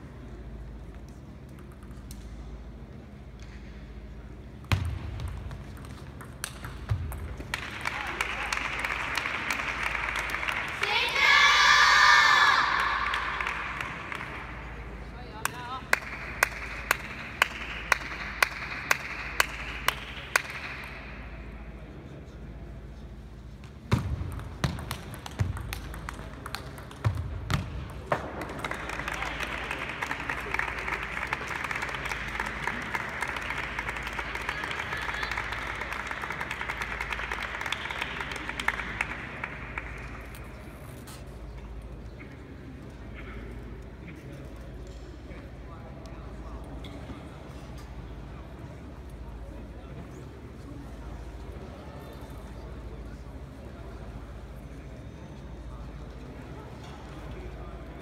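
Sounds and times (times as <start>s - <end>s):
low hum of hall: 0.0s - 58.0s.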